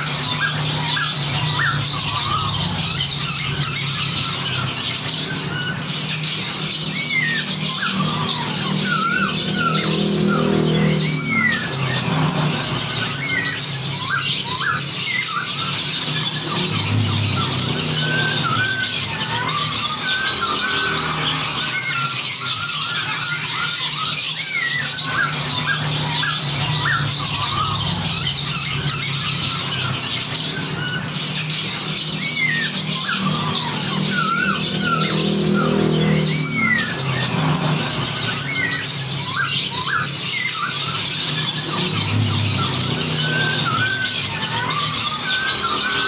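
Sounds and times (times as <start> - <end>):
songbirds chattering and calling: 0.0 - 46.0.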